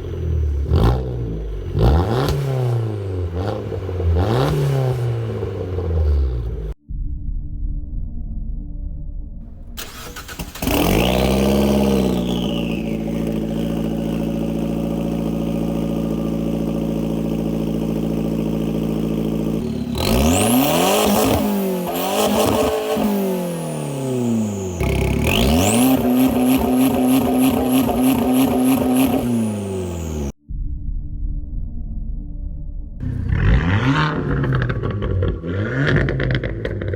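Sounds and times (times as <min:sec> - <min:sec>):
car exhaust revving: 0:00.0 - 0:06.8, 0:09.8 - 0:30.4, 0:33.0 - 0:36.9.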